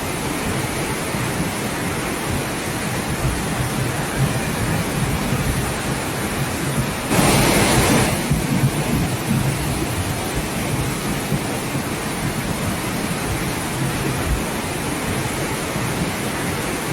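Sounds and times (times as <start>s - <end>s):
rushing water: 0.0s - 16.9s.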